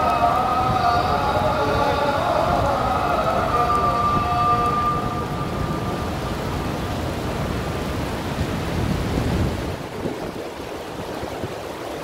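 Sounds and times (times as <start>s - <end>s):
rain hissing: 0.0s - 11.4s
wind rumble on microphone: 0.0s - 12.0s.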